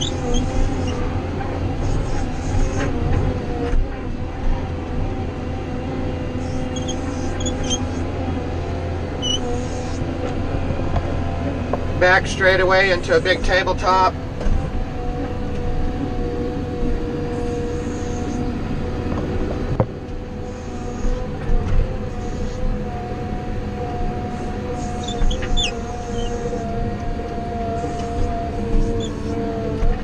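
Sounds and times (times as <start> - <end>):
wheel loader engine running: 0.0 - 30.0
high whine: 1.8 - 30.0.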